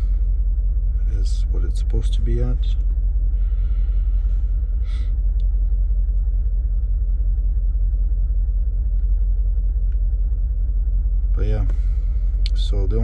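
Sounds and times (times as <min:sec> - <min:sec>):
car engine rough idle: 0:00.0 - 0:13.0.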